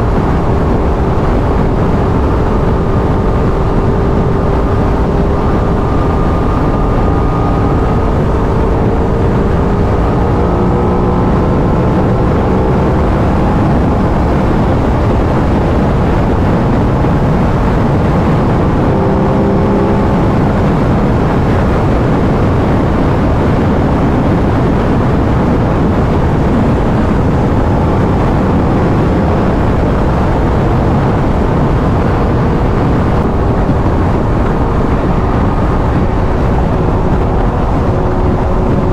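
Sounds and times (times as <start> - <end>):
motorcycle engine cruising: 0.0 - 38.9
riding wind noise: 0.0 - 38.9.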